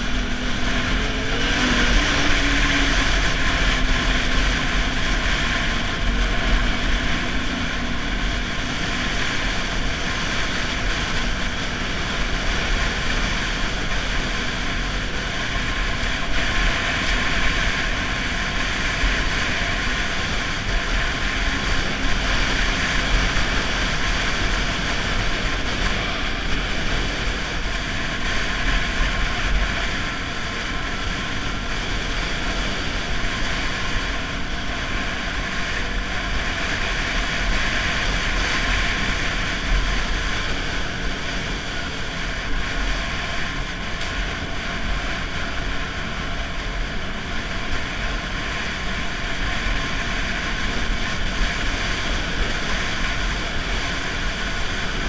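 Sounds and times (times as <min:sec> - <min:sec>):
snowmobile engine running: 0:00.0 - 0:55.0
wind noise on microphone: 0:00.0 - 0:55.0.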